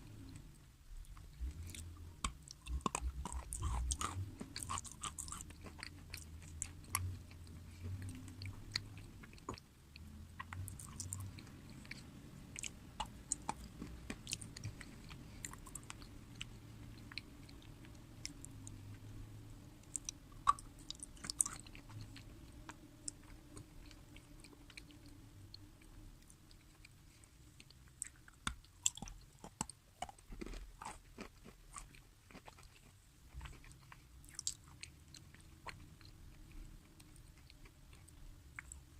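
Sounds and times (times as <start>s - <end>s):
chewing crunchy food: 0.0s - 19.2s, 19.8s - 38.9s.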